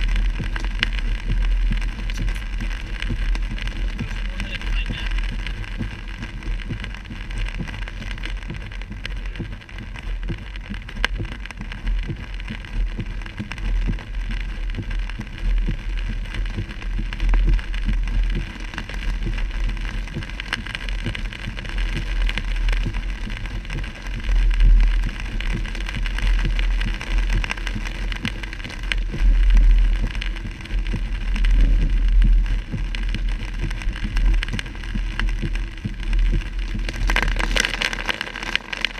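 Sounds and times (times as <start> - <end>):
low car rumble: 0.0 - 38.9
rain ticking on windshield: 0.0 - 38.9
tyres hissing on wet road: 0.0 - 38.9.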